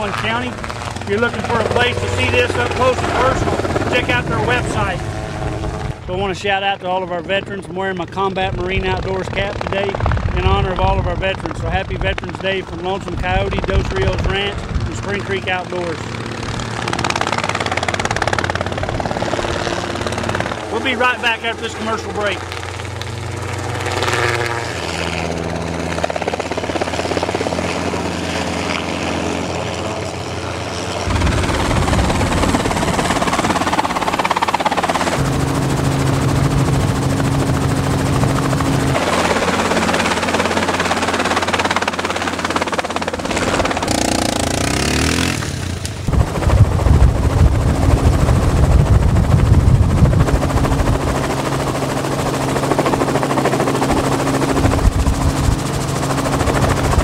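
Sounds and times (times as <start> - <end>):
helicopter rotor chop: 0.0 - 57.0.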